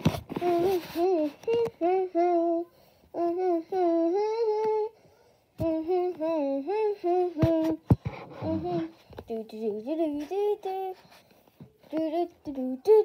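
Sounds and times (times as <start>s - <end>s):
child singing wordless tune: 0.4s - 11.1s, 11.8s - 13.0s.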